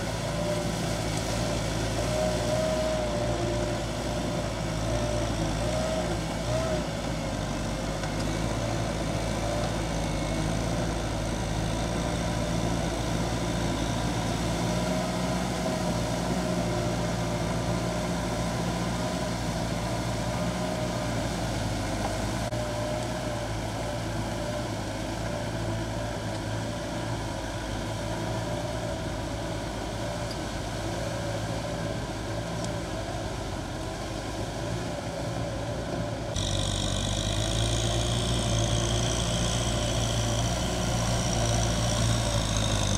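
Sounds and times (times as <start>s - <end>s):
high engine whine: 0.0s - 42.9s
tractor diesel engine running: 0.0s - 42.9s.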